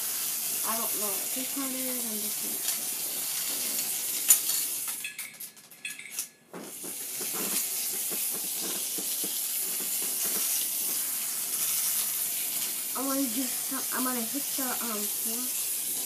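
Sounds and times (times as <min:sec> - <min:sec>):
steady hiss: 0:00.0 - 0:05.1, 0:06.6 - 0:16.0
plastic toy track pieces rattling: 0:00.2 - 0:16.0.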